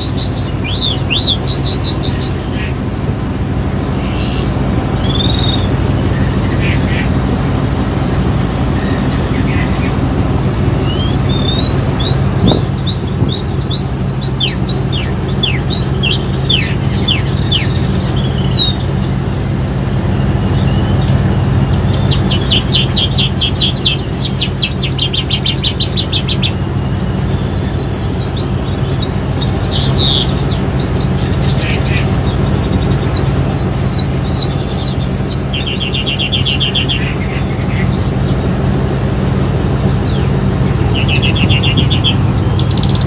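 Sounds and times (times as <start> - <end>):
boat engine drone: 0.0 - 43.0
songbird singing: 0.0 - 43.0.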